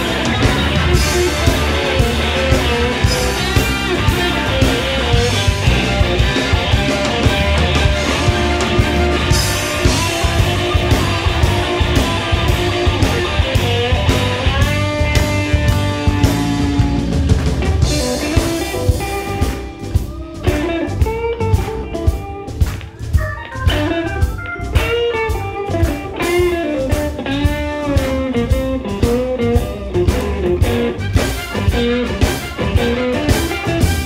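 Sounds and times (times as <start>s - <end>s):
electric guitar solo: 0.0s - 34.0s
live blues band: 0.0s - 34.0s.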